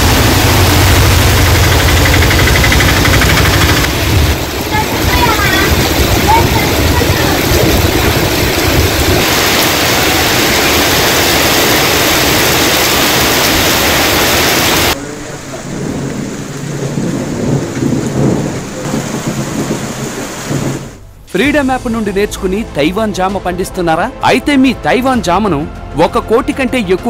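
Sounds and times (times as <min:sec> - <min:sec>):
heavy rain pouring: 0:00.0 - 0:22.6.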